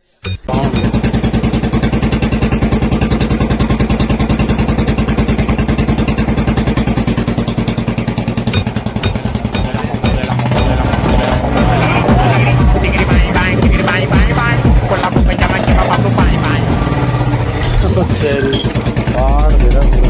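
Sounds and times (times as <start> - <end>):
exhaust pops: 0.4 - 20.0
motorcycle engine idling: 0.4 - 20.0.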